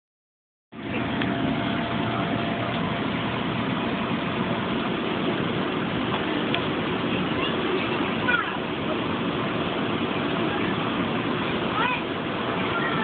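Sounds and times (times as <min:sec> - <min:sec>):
engine-like drone: 0:00.7 - 0:13.0
faint steady whine: 0:00.8 - 0:13.0.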